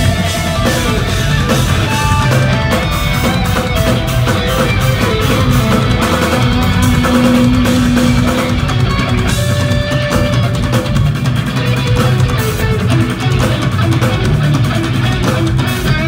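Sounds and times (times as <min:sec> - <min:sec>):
busy drum kit: 0:00.0 - 0:16.0
electric guitars: 0:00.0 - 0:16.0.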